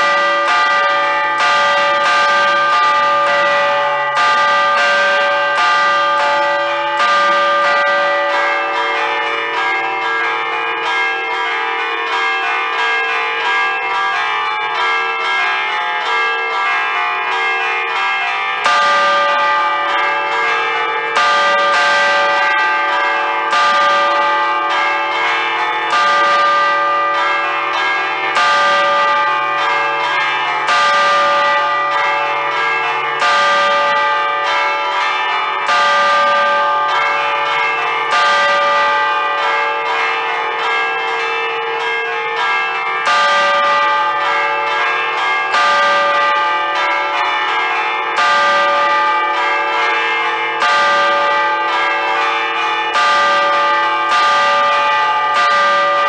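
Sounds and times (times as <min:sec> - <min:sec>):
church bells chiming: 0:00.0 - 0:56.0.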